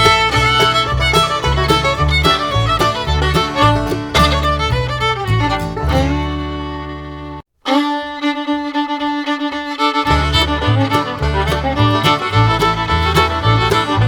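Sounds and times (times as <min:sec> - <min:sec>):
fiddle-led bluegrass music: 0:00.0 - 0:14.0.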